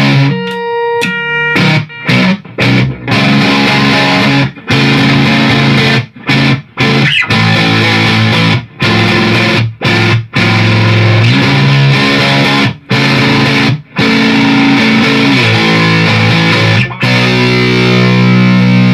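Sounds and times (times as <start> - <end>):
distorted electric guitar chords: 0.0 - 18.9.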